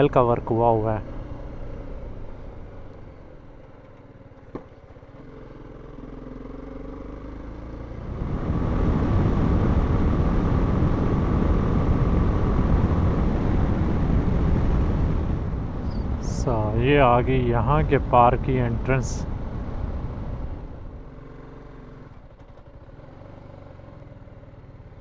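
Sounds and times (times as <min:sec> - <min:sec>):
wind and road noise: 0:00.0 - 0:25.0
motorcycle engine running: 0:01.0 - 0:25.0.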